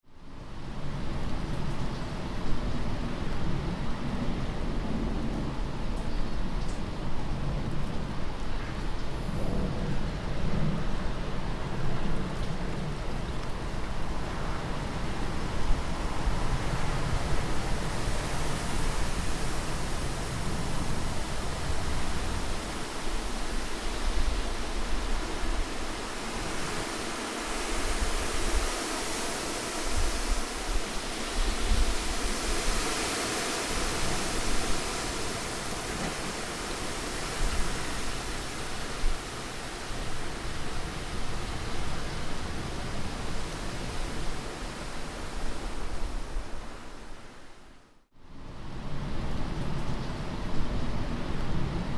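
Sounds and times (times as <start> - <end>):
strong wind gusting: 0.4 - 51.9.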